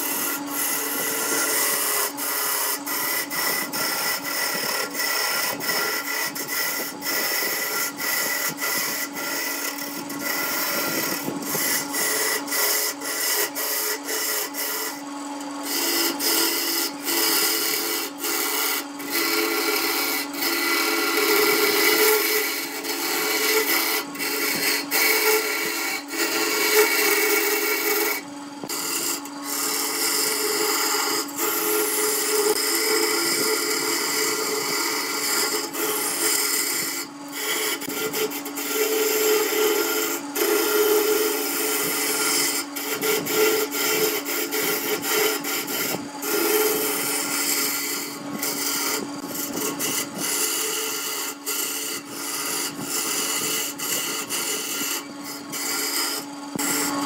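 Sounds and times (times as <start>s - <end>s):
chisel scraping wood: 0.0s - 57.0s
lathe motor hum: 0.0s - 57.0s.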